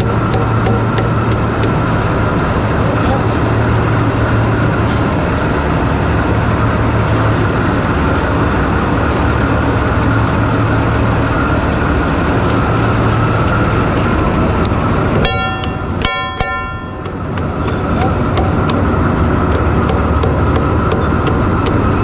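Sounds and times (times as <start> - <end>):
crane machinery droning: 0.0 - 22.0.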